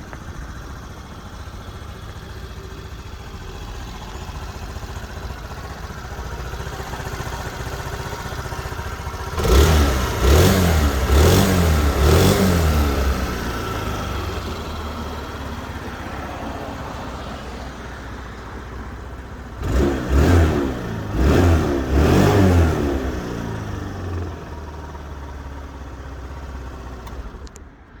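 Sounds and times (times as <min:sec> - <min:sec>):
scooter engine idling and revving: 0:00.0 - 0:28.0.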